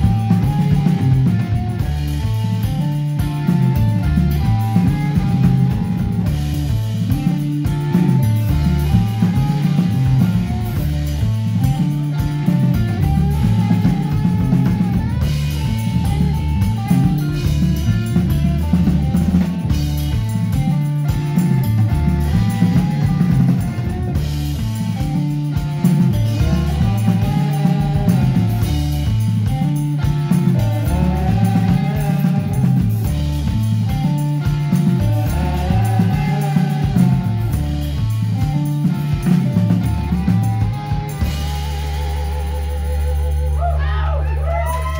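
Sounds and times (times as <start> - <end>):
loud live rock band: 0.0 - 44.9.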